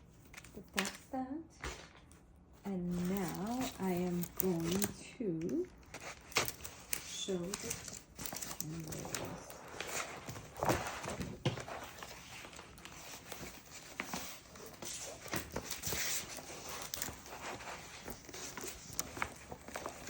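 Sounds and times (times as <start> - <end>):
canvas rustling and crinkling: 2.6 - 20.0.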